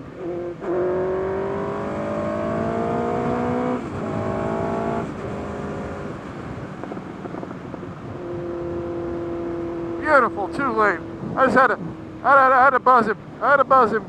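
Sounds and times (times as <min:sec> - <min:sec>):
motorcycle engine accelerating: 0:00.0 - 0:12.4.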